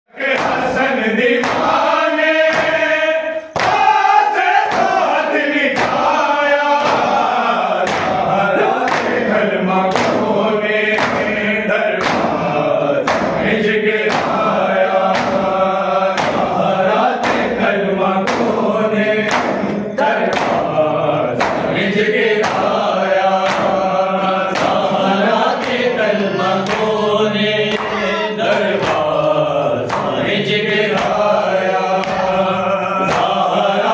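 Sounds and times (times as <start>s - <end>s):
men chanting a lament: 0.1s - 33.9s
rhythmic chest-beating: 0.1s - 33.9s.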